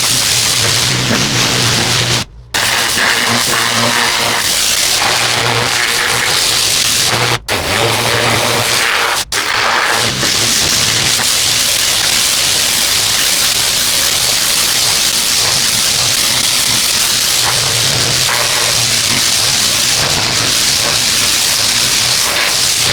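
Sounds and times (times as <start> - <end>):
pressure washer spraying concrete: 0.0 - 22.9.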